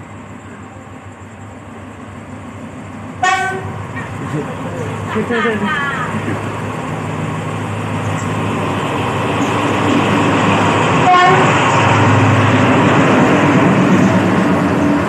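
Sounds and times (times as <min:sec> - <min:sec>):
locomotive engine humming: 0:00.0 - 0:15.0
train wheels rumbling on rails: 0:00.0 - 0:15.0.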